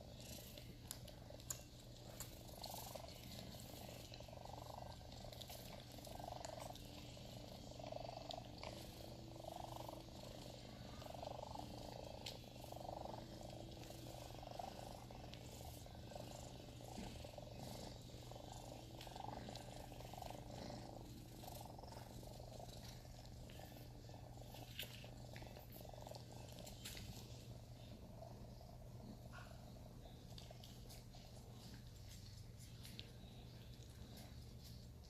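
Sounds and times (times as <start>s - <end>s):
faint ticks and rustles: 0.0s - 35.0s
kittens purring softly: 0.0s - 35.0s.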